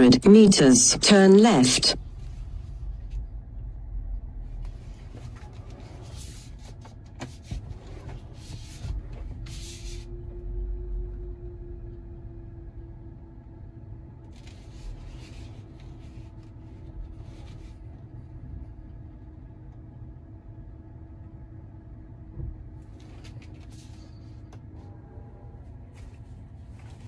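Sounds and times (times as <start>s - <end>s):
road and tyre rumble in car: 2.0s - 27.0s.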